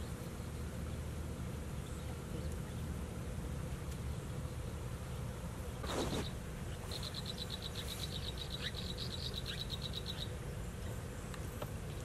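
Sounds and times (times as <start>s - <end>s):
nestling birds cheeping: 0.0s - 12.0s.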